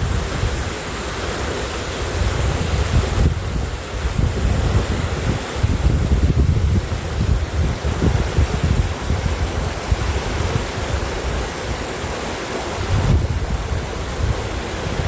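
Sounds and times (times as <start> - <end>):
stream water rushing: 0.0 - 15.0
wind buffeting microphone: 0.0 - 15.0.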